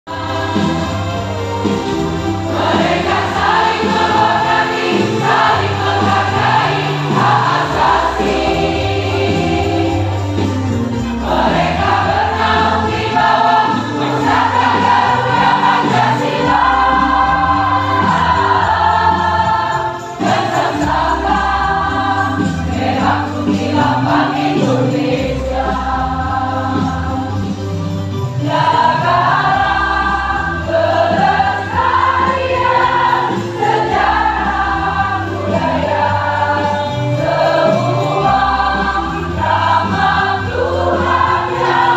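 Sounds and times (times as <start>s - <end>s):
instrumental accompaniment: 0.1s - 41.9s
large choir singing: 0.1s - 41.9s.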